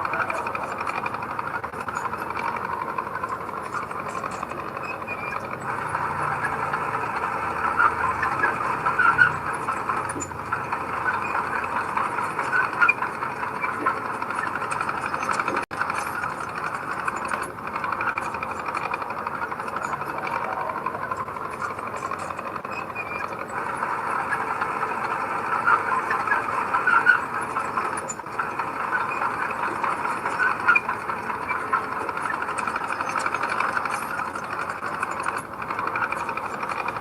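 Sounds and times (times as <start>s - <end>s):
heavy machinery clattering: 0.0s - 37.0s.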